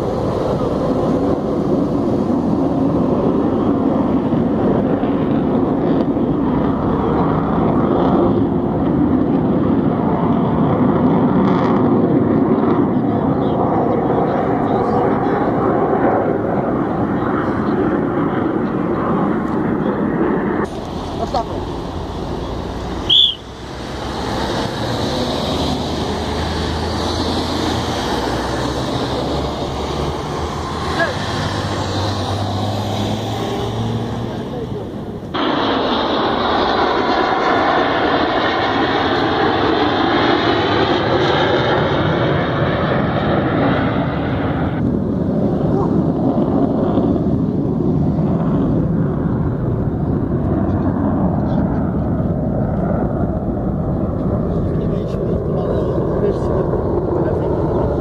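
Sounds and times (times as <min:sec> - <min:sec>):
tyres on road: 0:00.0 - 0:58.0
vehicle engines: 0:00.0 - 0:58.0.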